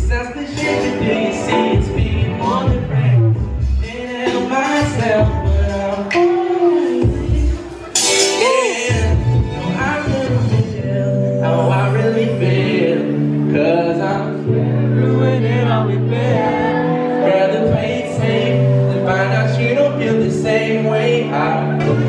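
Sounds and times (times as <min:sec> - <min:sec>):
deep bass notes: 0:00.0 - 0:08.1, 0:08.8 - 0:22.0
keyboard chords: 0:00.0 - 0:22.0
man singing lead: 0:00.0 - 0:22.0
backing vocals: 0:03.8 - 0:22.0.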